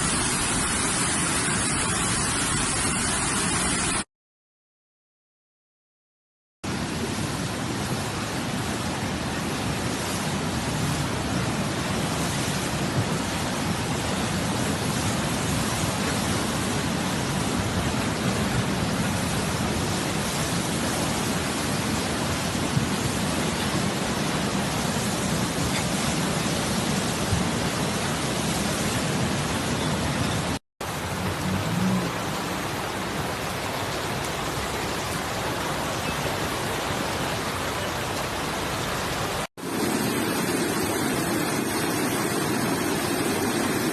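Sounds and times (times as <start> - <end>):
heavy rain falling: 0.0 - 4.0, 6.7 - 43.9.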